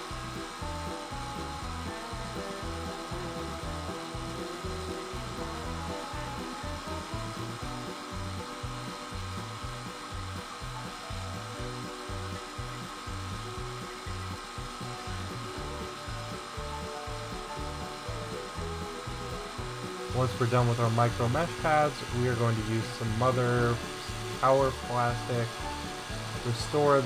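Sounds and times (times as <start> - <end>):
background music with beat: 0.0 - 27.0
sanding on spinning lathe: 0.0 - 27.0.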